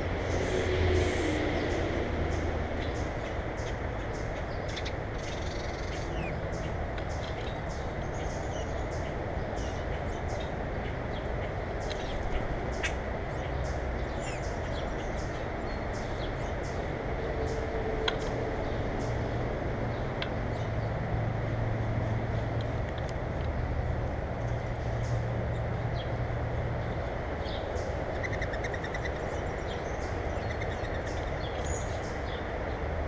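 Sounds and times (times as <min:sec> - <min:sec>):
steady outdoor rumble: 0:00.0 - 0:33.0.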